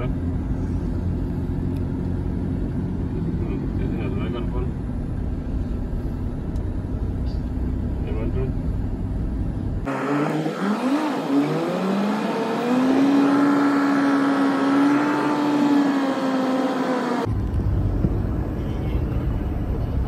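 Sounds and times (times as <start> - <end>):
car ride rumble: 0.0 - 20.0.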